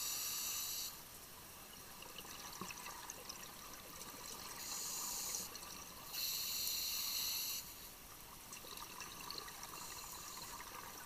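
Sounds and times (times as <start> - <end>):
faint crackling background: 0.0 - 11.0.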